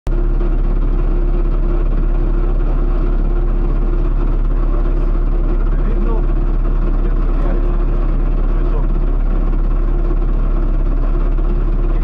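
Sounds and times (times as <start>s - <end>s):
car engine idling: 0.1s - 12.0s.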